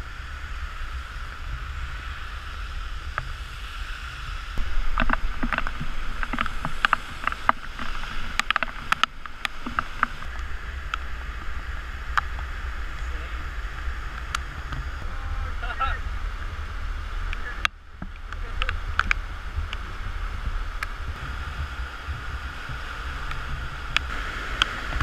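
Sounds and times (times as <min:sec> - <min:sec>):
flooded river rushing: 0:00.0 - 0:25.0
heavy rain: 0:00.0 - 0:25.0
wind rumble on microphone: 0:00.0 - 0:25.0.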